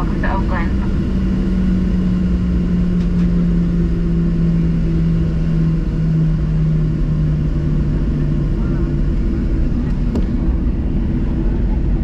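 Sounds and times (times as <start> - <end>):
jet engine hum: 0.0 - 12.0
low rumble: 0.0 - 12.0.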